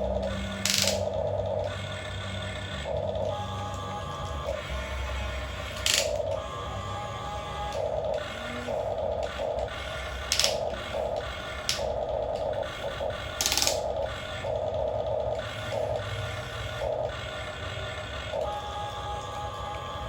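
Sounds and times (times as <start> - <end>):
small gear motors whirring: 0.0 - 20.0.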